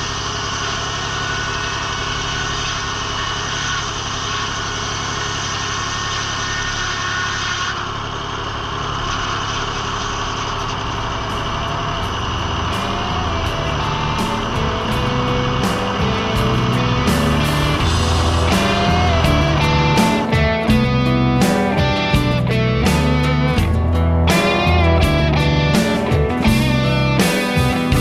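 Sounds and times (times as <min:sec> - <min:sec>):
engine running with whine: 0:00.0 - 0:28.0.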